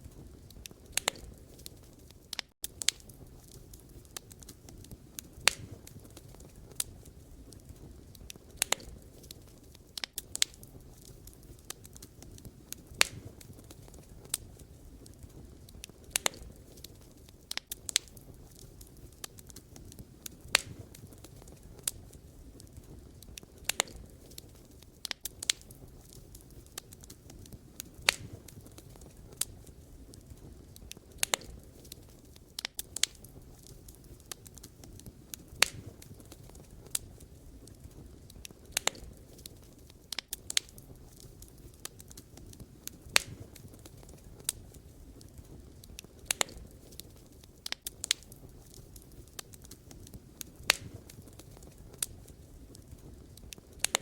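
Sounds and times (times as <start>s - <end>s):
flames rumbling: 0.0s - 54.0s
logs popping and snapping: 0.6s - 54.0s.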